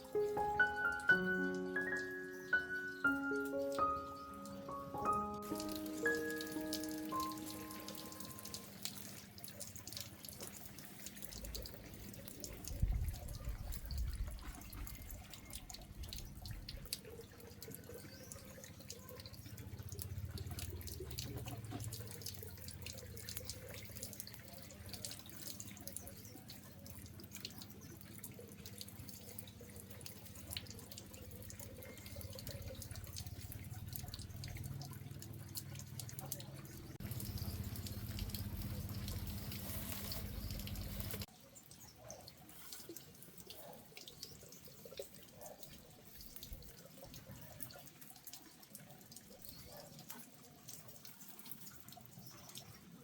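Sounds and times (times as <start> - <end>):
water splashing and dripping: 0.0 - 53.0.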